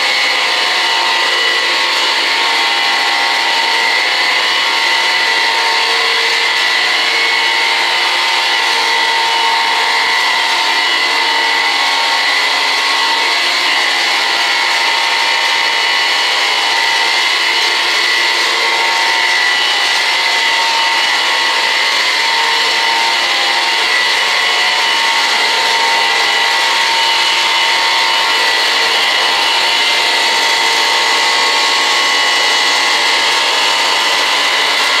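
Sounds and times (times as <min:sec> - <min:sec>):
electric blower motor whining: 0:00.0 - 0:35.0.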